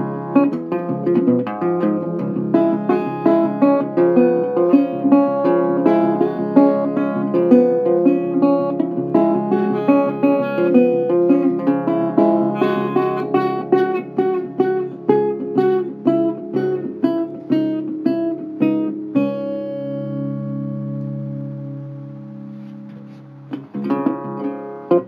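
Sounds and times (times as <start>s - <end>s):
acoustic guitar picking notes: 0.0s - 25.0s
guitar chord ringing out: 0.0s - 25.0s.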